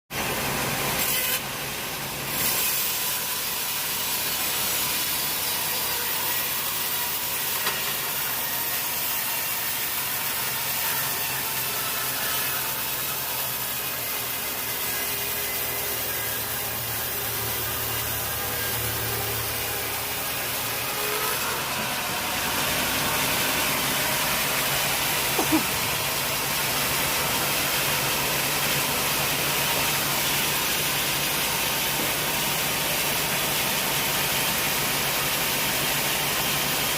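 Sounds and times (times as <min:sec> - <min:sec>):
sawmill saw cutting log: 0:00.1 - 0:36.9.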